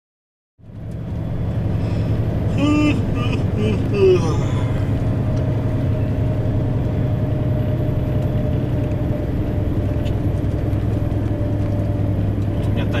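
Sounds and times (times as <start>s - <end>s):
truck diesel engine drone: 0.6s - 13.0s.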